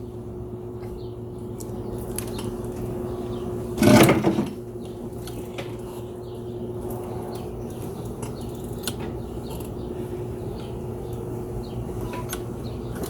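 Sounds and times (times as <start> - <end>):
birds chirping: 0.0 - 13.0
electric drive humming: 0.0 - 13.0.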